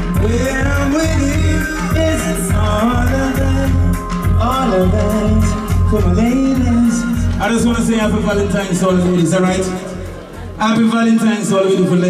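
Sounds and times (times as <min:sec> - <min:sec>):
man singing into microphone: 0:00.0 - 0:09.9
dancehall reggae music: 0:00.0 - 0:12.0.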